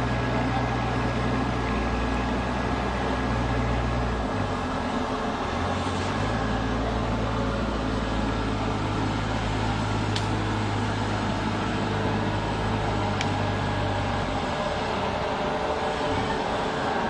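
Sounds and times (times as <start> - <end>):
machine drone: 0.0 - 17.0.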